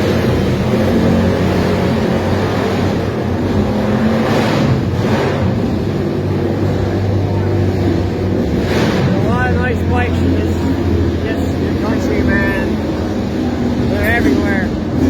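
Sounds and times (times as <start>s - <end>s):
racing motorcycle engine running: 0.0s - 15.0s.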